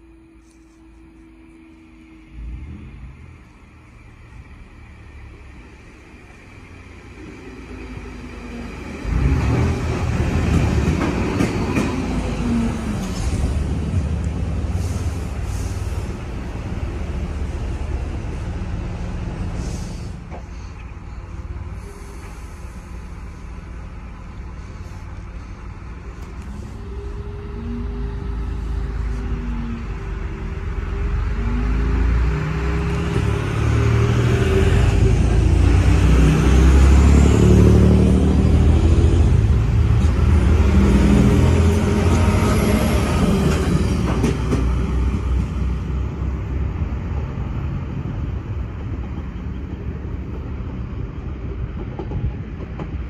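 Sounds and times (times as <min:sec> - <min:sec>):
diesel engines droning: 0:00.0 - 0:51.8
train wheels rumbling on rails: 0:02.4 - 0:53.0.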